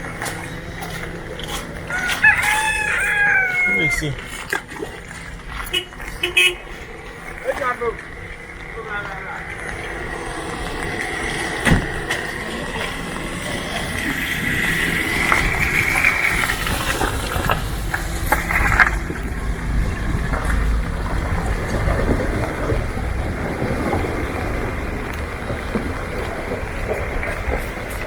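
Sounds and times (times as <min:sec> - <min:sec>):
traffic rumble on wet road: 0:00.0 - 0:28.0.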